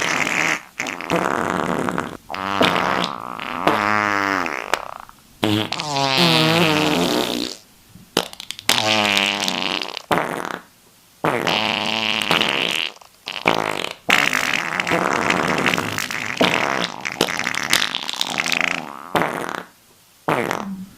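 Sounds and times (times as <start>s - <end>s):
fart sound effects: 0.0s - 7.6s, 8.2s - 20.9s.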